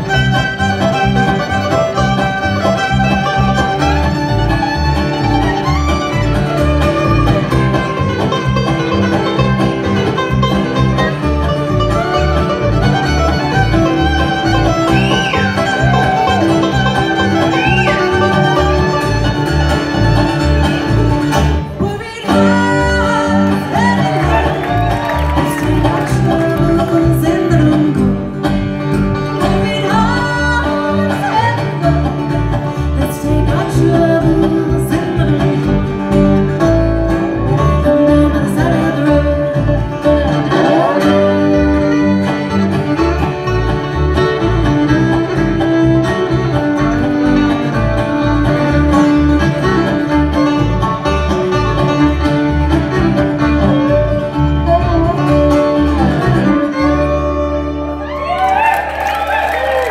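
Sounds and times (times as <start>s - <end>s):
bass line: 0.0s - 59.9s
fiddle: 0.0s - 59.9s
guitar: 0.0s - 59.9s.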